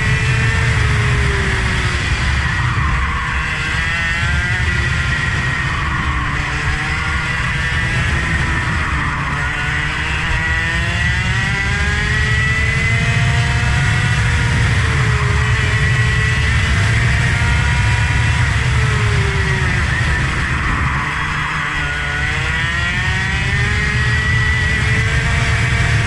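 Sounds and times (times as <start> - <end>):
vehicle engine running hard: 0.0 - 26.0.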